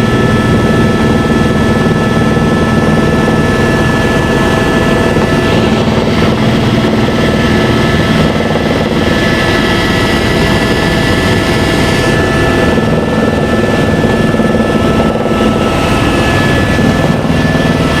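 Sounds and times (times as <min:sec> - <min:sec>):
helicopter running: 0:00.0 - 0:18.0.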